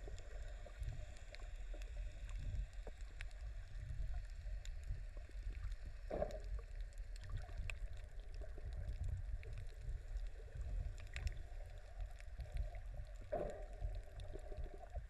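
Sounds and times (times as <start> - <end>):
faint clicks and crackles: 0.0 - 15.0
low water burble: 0.0 - 15.0
underwater rumble of water: 0.0 - 15.0.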